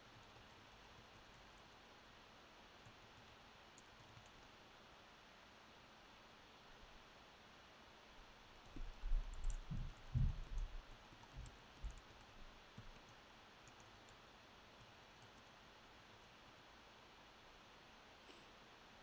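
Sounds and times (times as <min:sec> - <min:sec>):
faint room hiss: 0:00.0 - 0:19.0.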